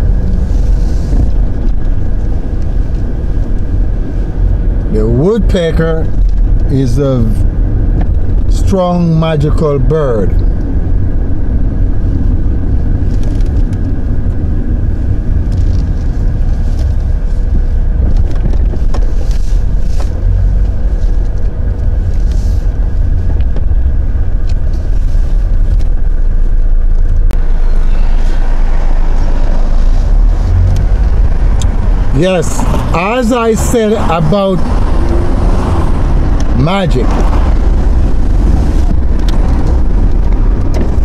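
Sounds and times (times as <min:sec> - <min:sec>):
loud low rumble: 0:00.0 - 0:41.0.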